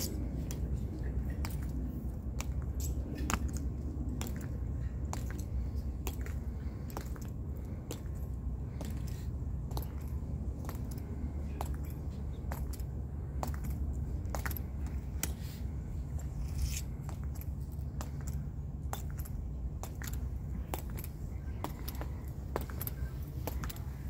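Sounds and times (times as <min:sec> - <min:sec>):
shoes clicking on stone walkway: 0:00.0 - 0:24.0
steady low rumble: 0:00.0 - 0:24.0.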